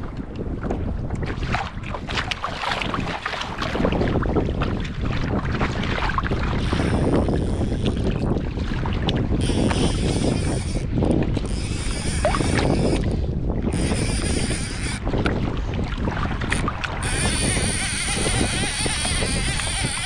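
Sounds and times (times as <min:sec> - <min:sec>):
water splashing against kayak hull: 0:00.0 - 0:20.0
wind buffeting microphone: 0:00.0 - 0:20.0.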